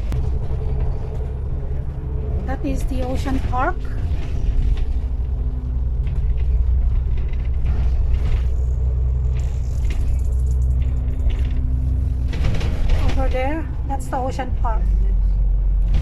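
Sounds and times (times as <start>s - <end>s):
bus engine and road rumble: 0.0s - 16.0s
light rattles: 0.1s - 14.7s.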